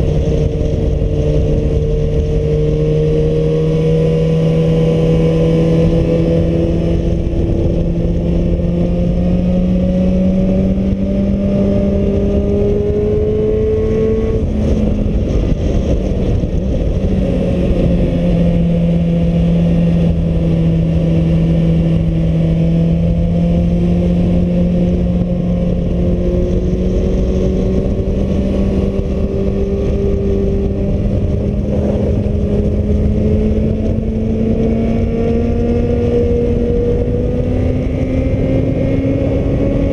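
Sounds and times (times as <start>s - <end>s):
motorcycle engine: 0.0s - 39.9s
wind noise on microphone: 0.0s - 39.9s.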